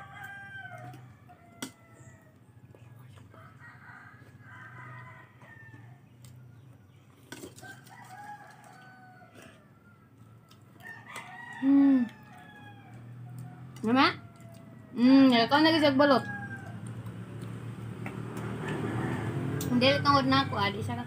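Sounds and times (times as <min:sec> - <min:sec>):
roosters crowing: 0:00.0 - 0:02.6, 0:03.4 - 0:06.7, 0:07.5 - 0:21.0.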